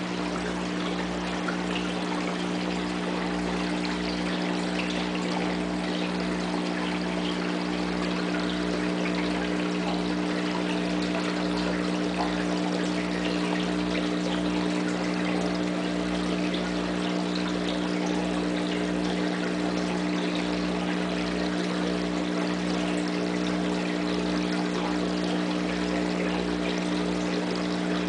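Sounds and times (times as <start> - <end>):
pump motor hum: 0.0 - 28.0
water trickling: 0.0 - 28.0.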